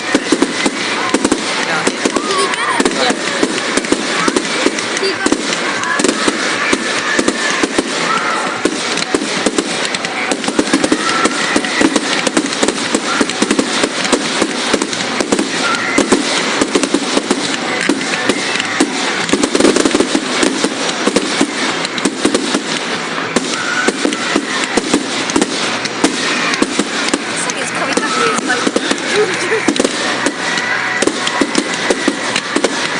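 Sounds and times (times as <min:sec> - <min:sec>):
fireworks crackling and popping: 0:00.0 - 0:32.9.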